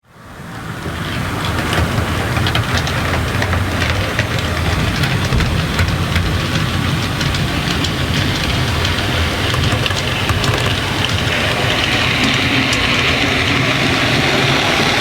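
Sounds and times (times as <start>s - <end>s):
train rumbling on rails: 0.0s - 15.0s
wheels clicking over track: 0.1s - 15.0s.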